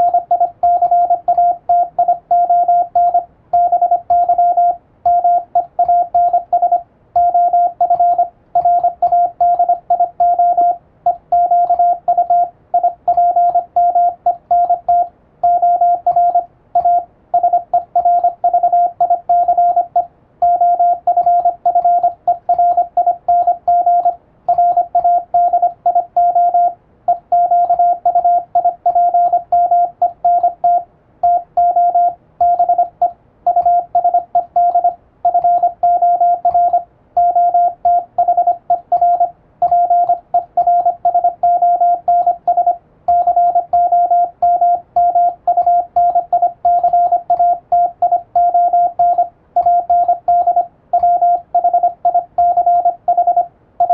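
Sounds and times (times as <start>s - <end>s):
morse code tone: 0.0s - 53.9s.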